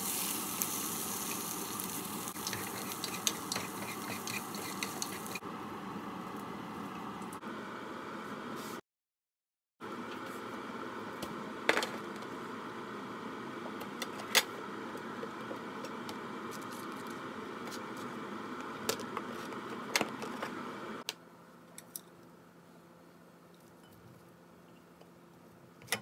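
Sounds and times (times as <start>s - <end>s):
kitchen background hum: 0.0s - 8.8s, 9.8s - 26.0s.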